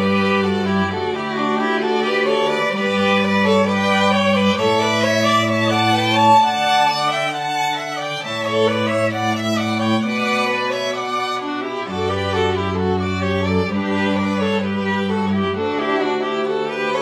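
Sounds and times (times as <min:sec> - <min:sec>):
cello bass line: 0:00.0 - 0:17.0
violin melody: 0:00.0 - 0:17.0.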